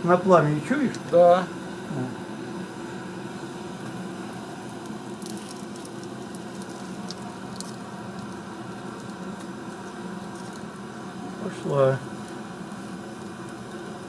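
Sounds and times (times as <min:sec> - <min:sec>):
fire burning with a rush: 0:00.0 - 0:14.0
fire crackling: 0:00.0 - 0:14.0.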